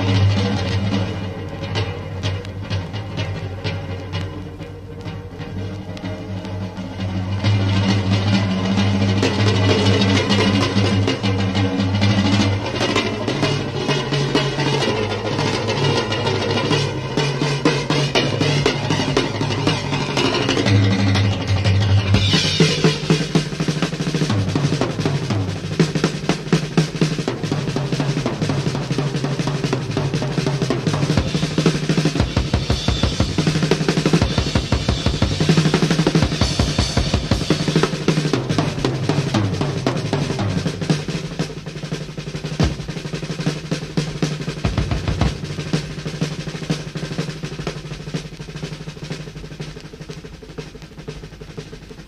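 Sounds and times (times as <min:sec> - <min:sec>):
rock drum kit played hard: 0:00.0 - 0:52.0.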